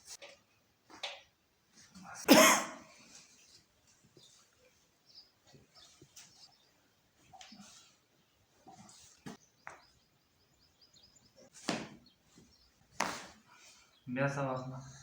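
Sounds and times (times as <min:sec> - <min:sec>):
faint rustles and clicks: 0:00.0 - 0:02.3, 0:02.9 - 0:14.0.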